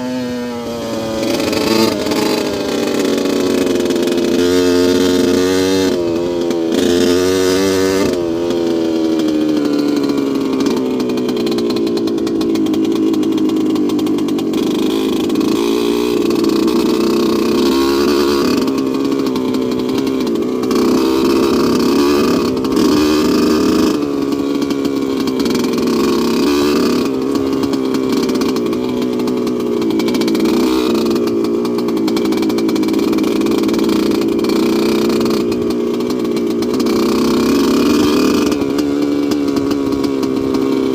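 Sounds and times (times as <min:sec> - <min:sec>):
two-stroke motorcycle engine: 0:00.0 - 0:40.9.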